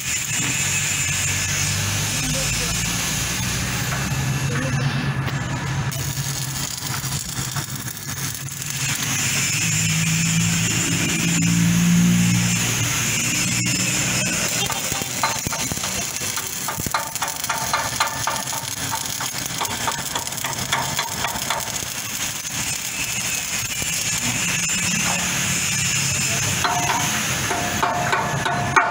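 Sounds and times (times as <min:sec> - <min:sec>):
welding arc crackling hiss: 0:00.0 - 0:28.9.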